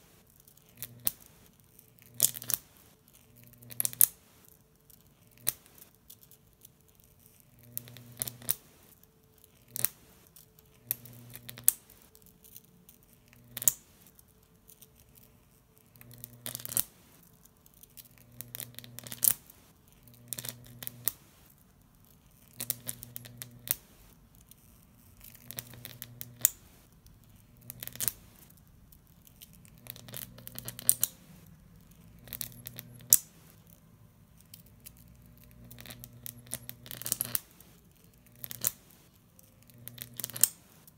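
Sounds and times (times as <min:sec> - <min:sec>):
electric arc crackling: 0:00.0 - 0:40.9.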